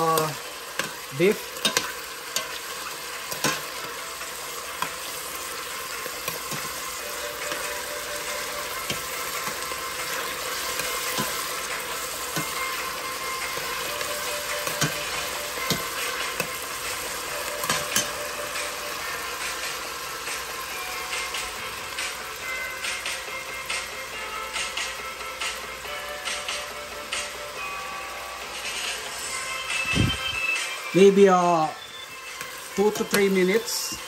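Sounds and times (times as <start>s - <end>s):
onions and mushrooms sizzling in oil: 0.0s - 34.0s.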